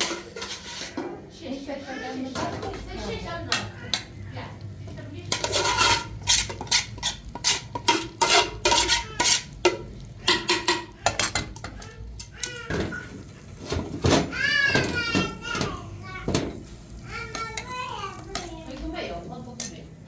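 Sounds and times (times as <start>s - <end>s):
dishes and utensils clinking: 0.0s - 1.3s, 1.9s - 4.2s, 4.9s - 18.9s.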